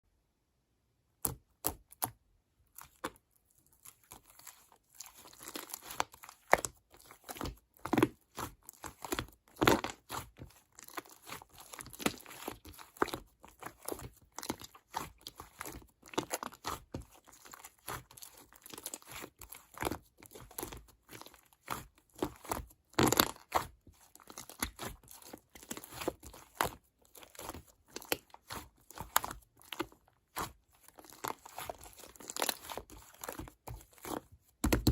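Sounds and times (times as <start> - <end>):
material crinkling and crackling: 2.8 - 34.9.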